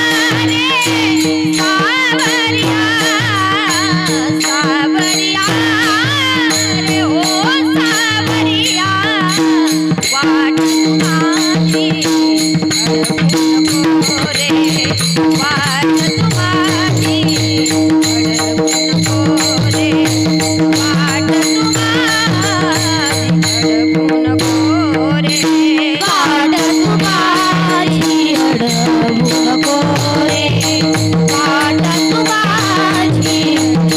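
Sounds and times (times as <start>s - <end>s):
drum strokes: 0.0s - 33.9s
small hand cymbals: 0.0s - 33.9s
woman singing: 0.0s - 33.9s.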